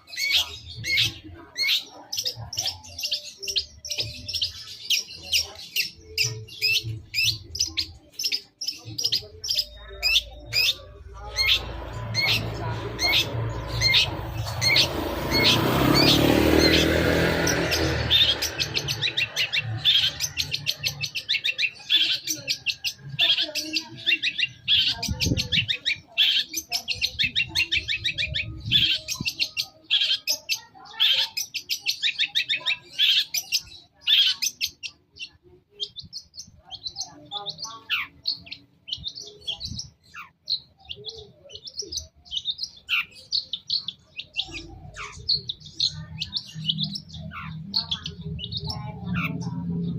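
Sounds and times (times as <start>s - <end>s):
bird chattering song: 0.0s - 49.9s.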